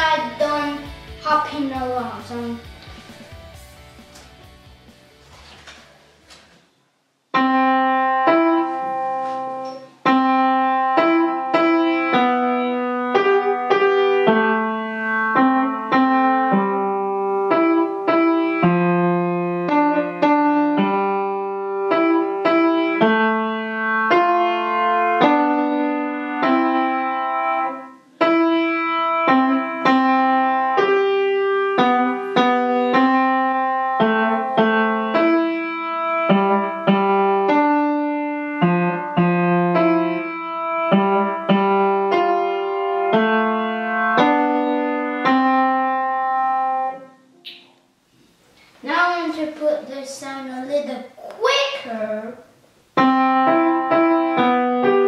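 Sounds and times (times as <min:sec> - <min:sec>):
upright piano playing a simple tune: 0:00.0 - 0:05.0, 0:07.3 - 0:47.6, 0:53.0 - 0:55.0.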